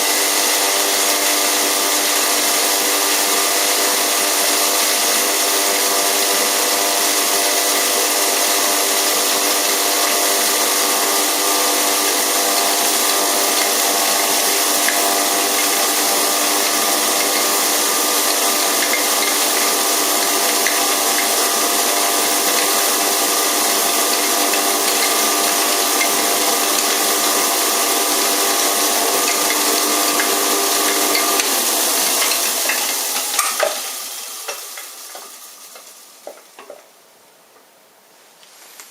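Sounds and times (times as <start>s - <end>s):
motor hum: 0.0s - 36.9s
grinder whirring hiss: 0.0s - 37.1s.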